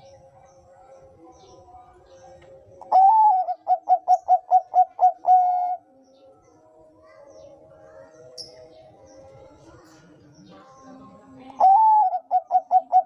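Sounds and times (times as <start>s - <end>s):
dove cooing: 0.0s - 6.1s, 7.0s - 13.0s.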